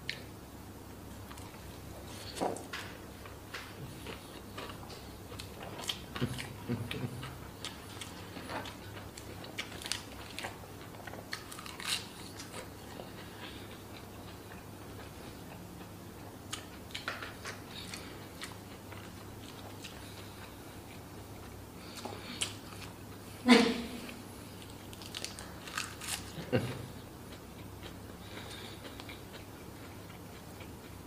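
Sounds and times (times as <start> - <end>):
faint steady hum: 0.0 - 31.0
chewing and crunching food: 1.2 - 23.3, 24.1 - 31.0.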